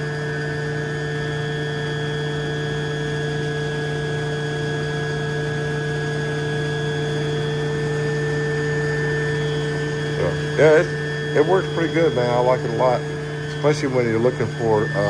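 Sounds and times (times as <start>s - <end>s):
water pump motor humming: 0.0s - 15.0s.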